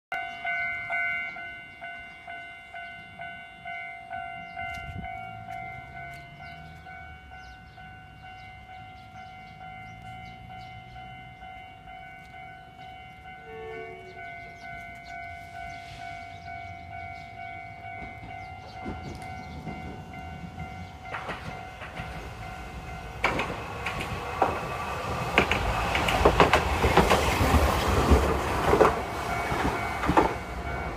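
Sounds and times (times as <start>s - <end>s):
level crossing alarm ringing: 0.1s - 30.9s.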